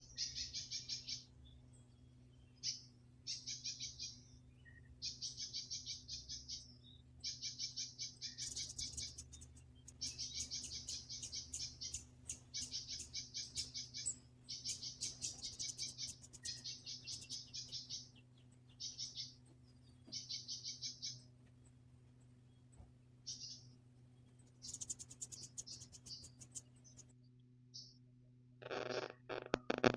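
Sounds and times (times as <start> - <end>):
bird chirping in trills: 0.0 - 21.3, 22.5 - 27.1
faint low hum: 0.0 - 29.9.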